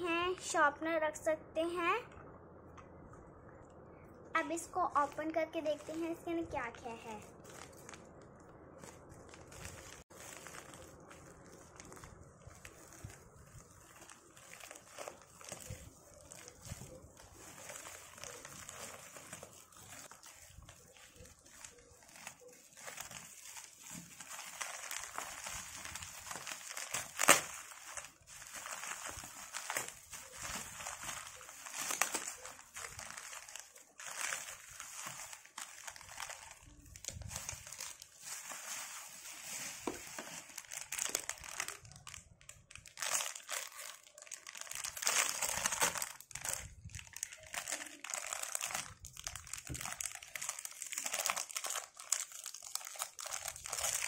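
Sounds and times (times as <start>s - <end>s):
plastic crinkling and rustling: 4.4s - 54.0s.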